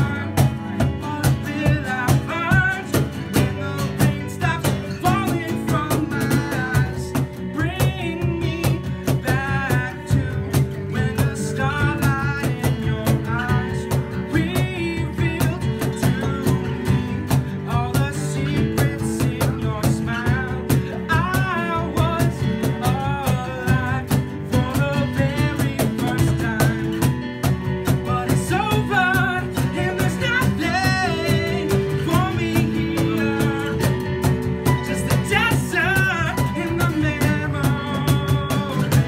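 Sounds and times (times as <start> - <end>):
cajon beat: 0.0 - 39.0
man singing: 0.0 - 39.0
strummed acoustic guitar: 0.0 - 39.0.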